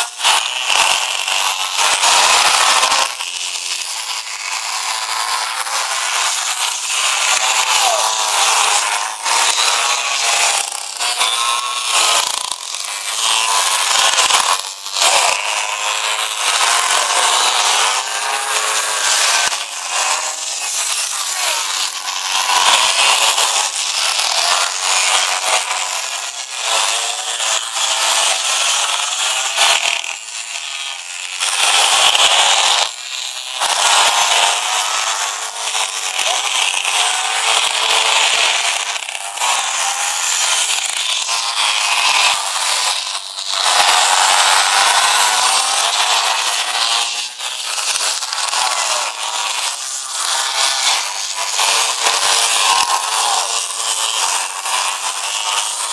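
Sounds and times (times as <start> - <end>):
small two-stroke engines buzzing: 0.0 - 55.9.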